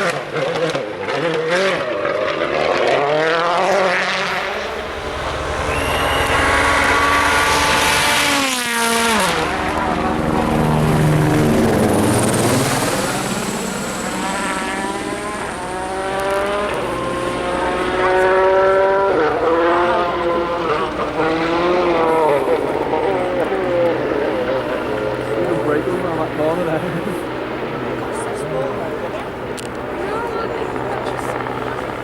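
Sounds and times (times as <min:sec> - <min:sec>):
rally car engine at full throttle: 0:00.0 - 0:32.0.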